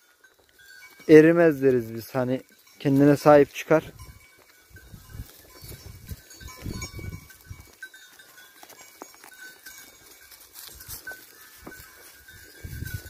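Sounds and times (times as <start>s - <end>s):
sheep bells clinking: 0.0s - 13.0s.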